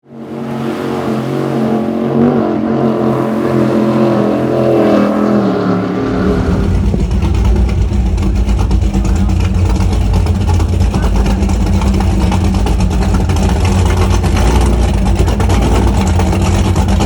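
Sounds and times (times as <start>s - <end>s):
powerboat engines running hard: 0.0s - 17.0s
pulsing exhaust rumble: 0.0s - 17.0s.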